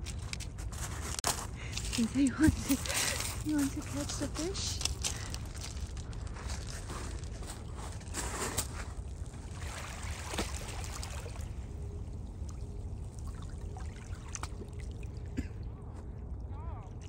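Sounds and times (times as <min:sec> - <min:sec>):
water lapping on pebbles: 0:00.0 - 0:15.4.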